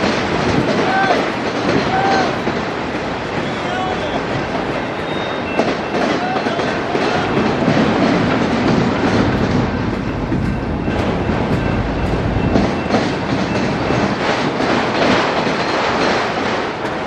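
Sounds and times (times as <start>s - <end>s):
train wheels rumbling on rails: 0.0s - 17.0s
wheels clacking over rail joints: 0.0s - 17.0s.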